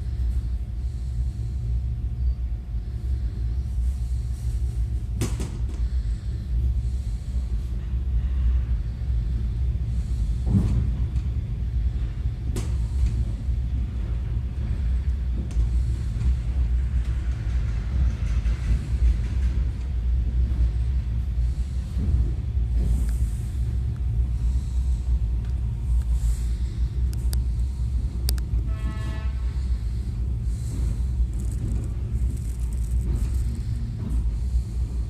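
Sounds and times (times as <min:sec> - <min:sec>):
train low rumble: 0:00.0 - 0:35.0.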